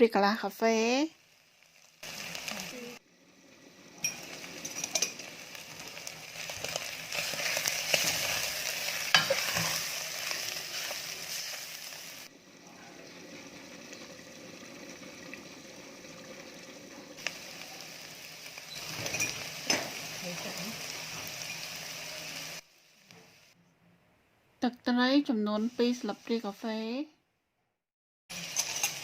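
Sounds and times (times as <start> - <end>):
food sizzling in hot oil: 0.0 - 23.6, 25.5 - 26.9, 28.3 - 29.0.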